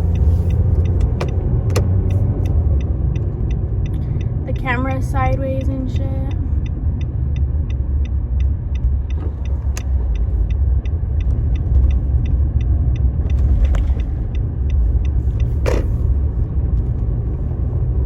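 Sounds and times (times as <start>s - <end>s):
car cabin low rumble: 0.0s - 18.0s
turn signal ticking: 0.0s - 18.0s.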